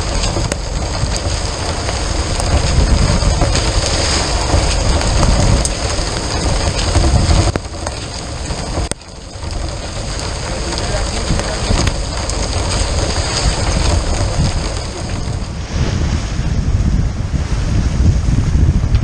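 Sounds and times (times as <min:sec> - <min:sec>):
heavy rain pelting: 0:00.0 - 0:16.0
sharp raindrop hits: 0:00.0 - 0:16.0
deep rumble: 0:00.0 - 0:19.0.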